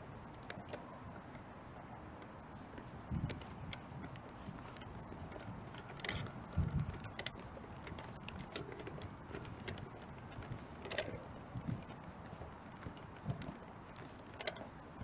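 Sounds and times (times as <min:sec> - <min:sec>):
footsteps on a paved path: 0:00.0 - 0:15.0.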